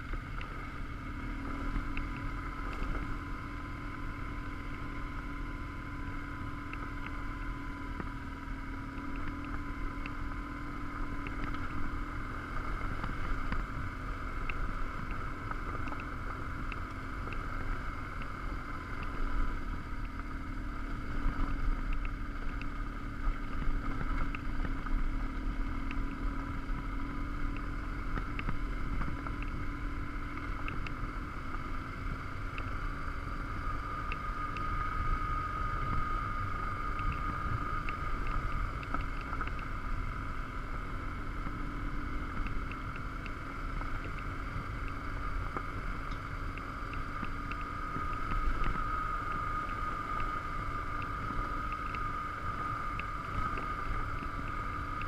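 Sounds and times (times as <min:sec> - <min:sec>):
motorcycle engine running: 0:00.0 - 0:55.0
small ticks: 0:00.0 - 0:55.0
wind rumbling on microphone: 0:00.0 - 0:55.0.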